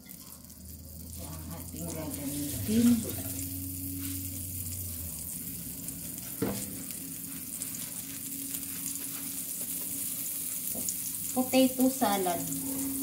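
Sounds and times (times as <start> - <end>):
butter sizzling in a pan: 0.0 - 13.0.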